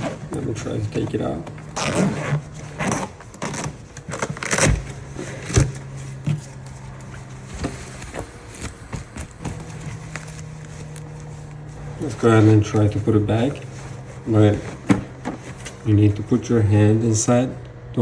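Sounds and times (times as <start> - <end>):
knocks and bumps of handling: 0.0 - 16.4
fabric rustling: 0.0 - 17.2.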